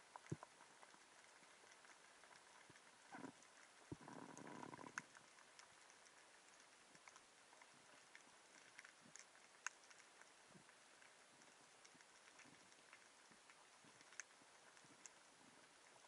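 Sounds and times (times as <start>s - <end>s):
sharp clicks and crackles: 0.0s - 16.0s.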